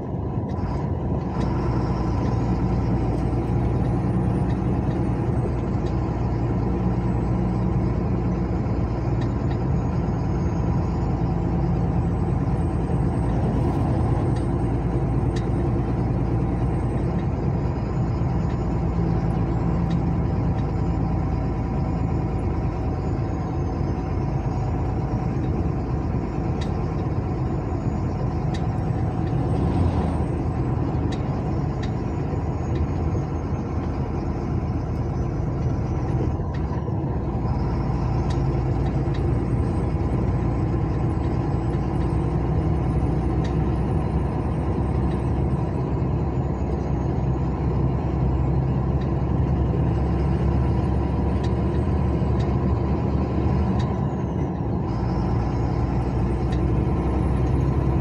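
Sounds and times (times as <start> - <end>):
car engine: 0.0 - 58.0
road noise: 0.0 - 58.0.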